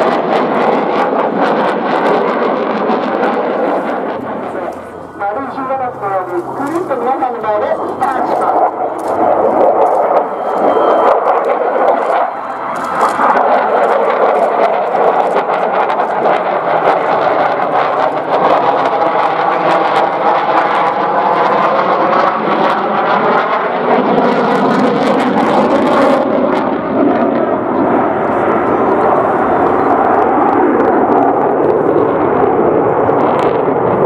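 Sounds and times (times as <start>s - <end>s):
jet flying past: 0.0s - 34.0s.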